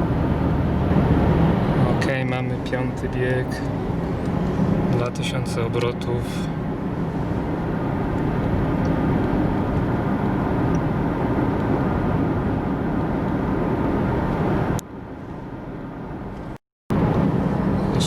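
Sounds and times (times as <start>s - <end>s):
tyre and road rumble: 0.0s - 15.4s
car engine hum: 0.0s - 18.0s.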